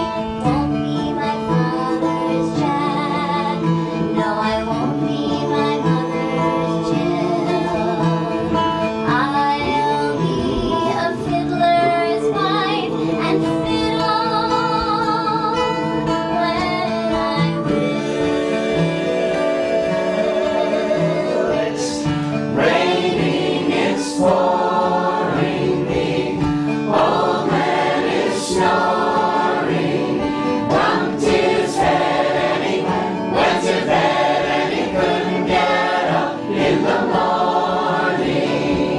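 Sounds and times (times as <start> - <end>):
group singing in harmony: 0.0 - 16.2, 16.9 - 38.9
acoustic guitar: 0.0 - 38.9.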